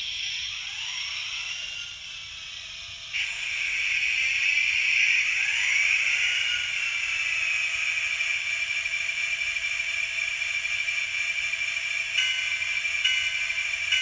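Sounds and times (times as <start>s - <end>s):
model locomotive engine sound whining: 0.0s - 14.0s.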